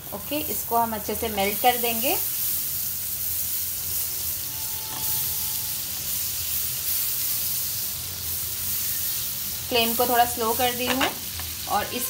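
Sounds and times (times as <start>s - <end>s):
butter sizzling in frying pan: 0.0s - 12.0s.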